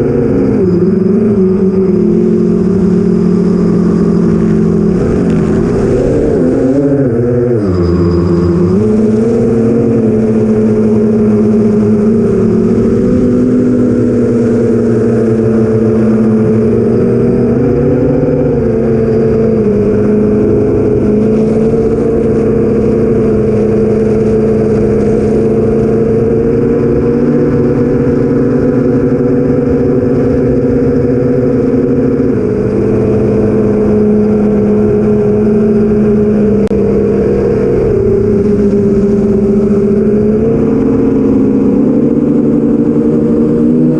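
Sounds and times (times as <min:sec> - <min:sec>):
drone motors buzzing: 0:00.0 - 0:43.9.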